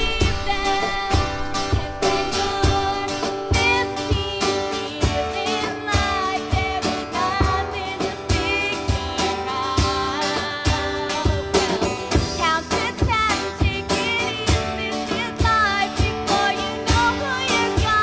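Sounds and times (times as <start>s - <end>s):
drums: 0.0s - 18.0s
second guitar: 0.0s - 18.0s
strummed acoustic guitar: 0.0s - 18.0s
woman singing: 0.0s - 18.0s.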